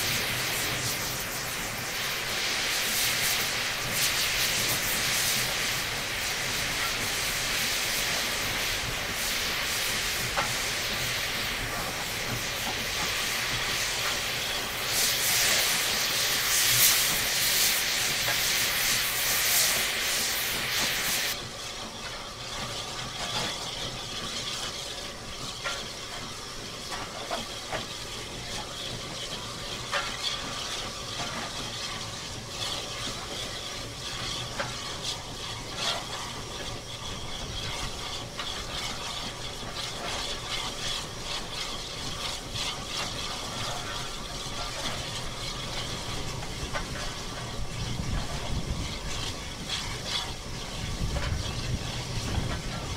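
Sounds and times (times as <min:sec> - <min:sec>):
steam hissing loudly: 0:00.0 - 0:52.9
steam locomotive running: 0:00.0 - 0:52.9.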